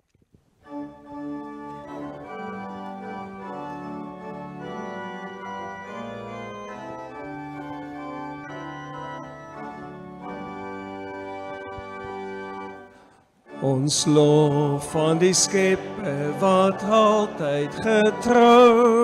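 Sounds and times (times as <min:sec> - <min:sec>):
organ playing hymn chords: 0:00.6 - 0:19.0.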